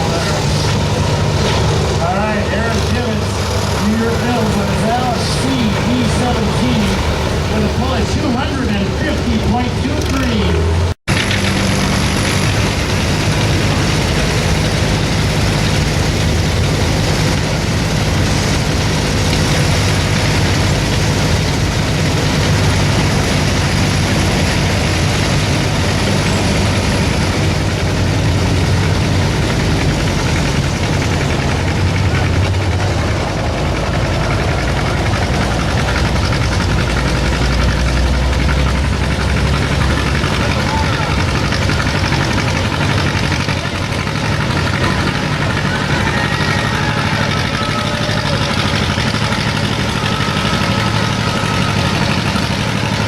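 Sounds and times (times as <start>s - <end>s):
heavy tractor engine running: 0.0s - 53.0s.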